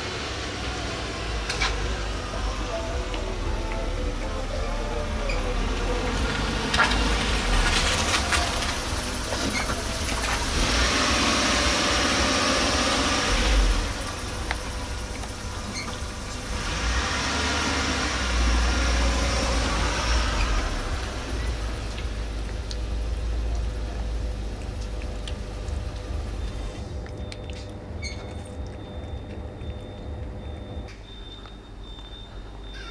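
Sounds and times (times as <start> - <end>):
vehicles passing: 0.0 - 32.9.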